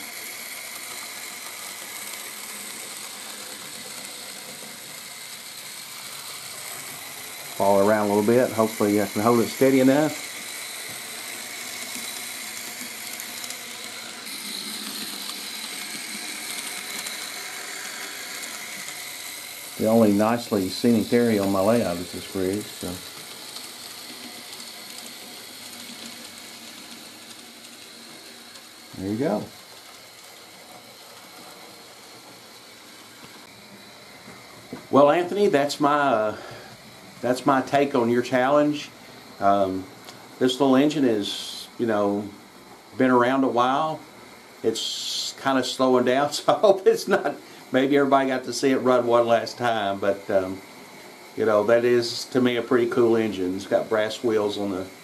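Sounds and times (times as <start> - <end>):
model train motor whirring: 0.0 - 55.0.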